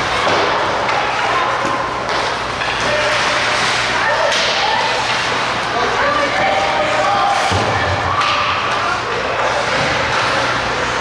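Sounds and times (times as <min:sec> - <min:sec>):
faint voices: 0:00.0 - 0:11.0
skates scraping ice: 0:00.0 - 0:11.0.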